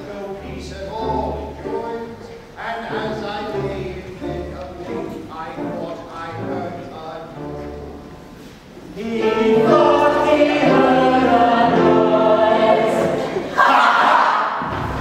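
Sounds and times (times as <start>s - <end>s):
operetta chorus singing: 0.0s - 8.1s, 8.7s - 15.0s.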